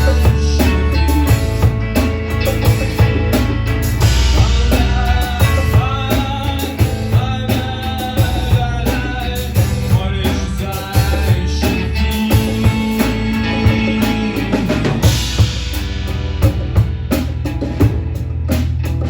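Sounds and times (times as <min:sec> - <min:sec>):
melodic lead line: 0:00.0 - 0:17.4
bass guitar: 0:00.0 - 0:19.0
drum kit beat: 0:00.0 - 0:19.0.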